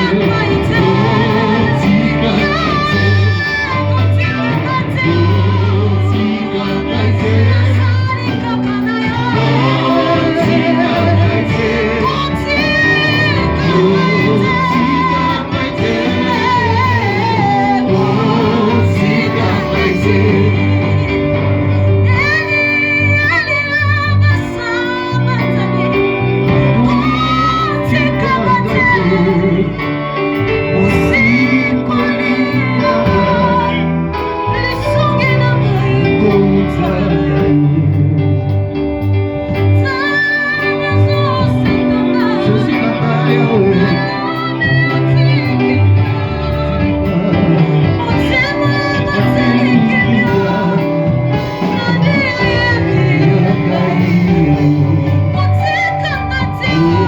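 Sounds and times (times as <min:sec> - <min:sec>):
instrumental backing: 0:00.0 - 0:57.0
women singing worship music: 0:00.0 - 0:57.0.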